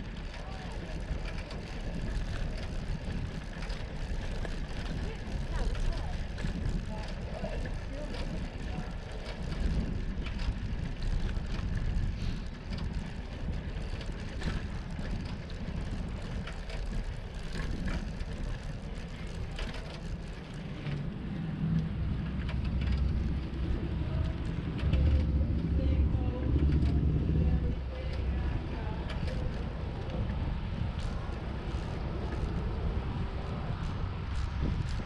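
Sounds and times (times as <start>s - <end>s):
bike rattling clicks: 0.0s - 35.0s
wind and tyres rumbling: 0.0s - 35.0s.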